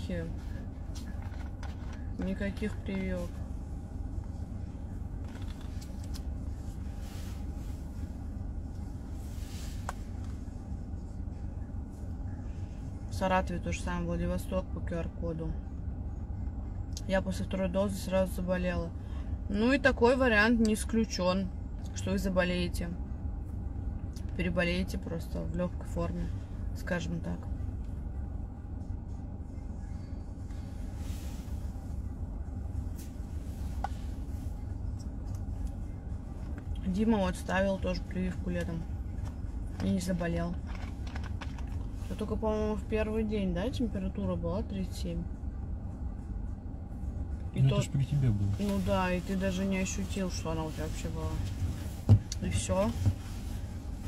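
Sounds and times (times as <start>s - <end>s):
vehicle low rumble: 0.0s - 54.0s.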